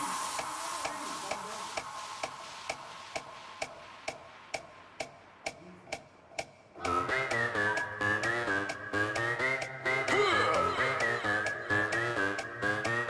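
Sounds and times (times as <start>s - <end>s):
dance workout music: 0.0s - 13.0s
sharp ticking beat: 0.0s - 13.0s.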